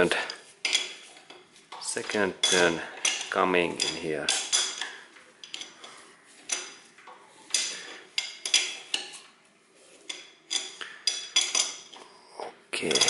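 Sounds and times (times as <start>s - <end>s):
hand tool clinking on metal: 0.1s - 6.9s, 7.5s - 9.3s, 10.1s - 12.0s, 12.8s - 13.0s.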